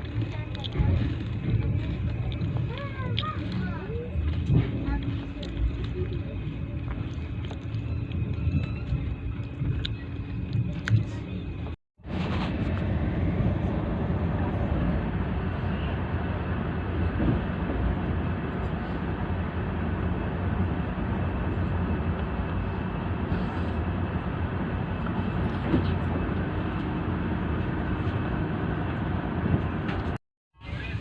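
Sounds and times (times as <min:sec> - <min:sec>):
train running noise inside coach: 0:00.0 - 0:31.0.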